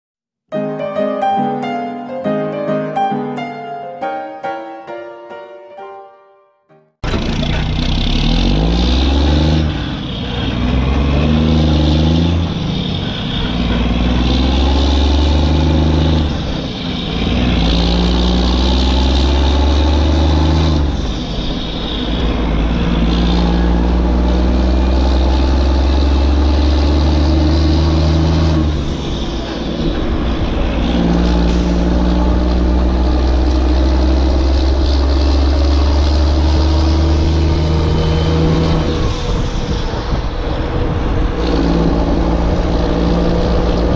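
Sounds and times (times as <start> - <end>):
truck engine revving: 7.0 - 43.9.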